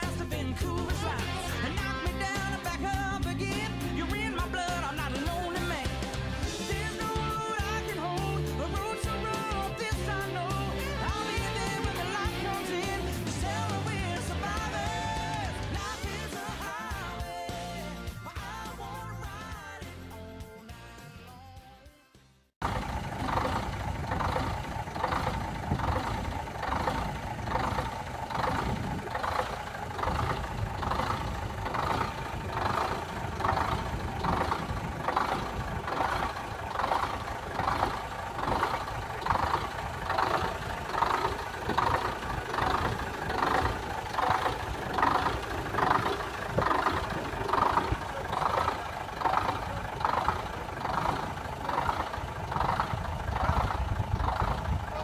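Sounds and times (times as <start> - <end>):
lorry engine idling: 0.0 - 20.2, 22.6 - 55.0.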